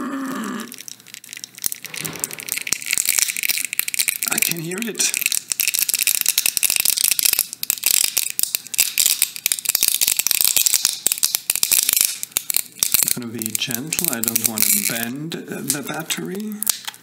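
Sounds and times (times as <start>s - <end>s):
adhesive crackling and tearing: 0.7s - 17.0s.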